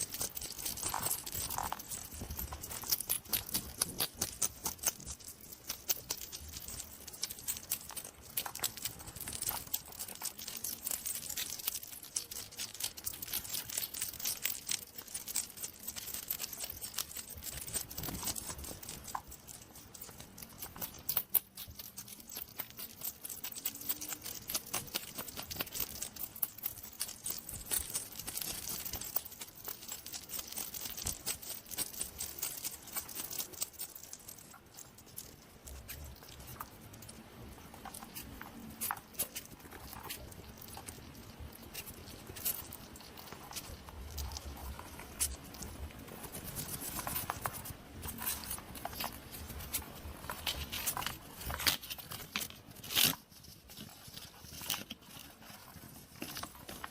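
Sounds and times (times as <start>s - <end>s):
hedgehog clicking and crackling: 0.0s - 56.9s.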